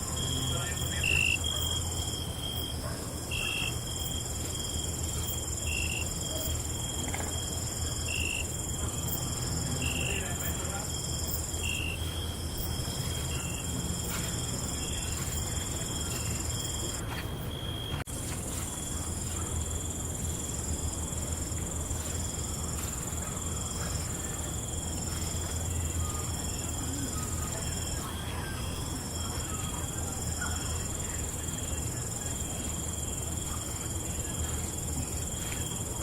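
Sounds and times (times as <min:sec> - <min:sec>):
crickets and insects trilling: 0:00.0 - 0:36.0.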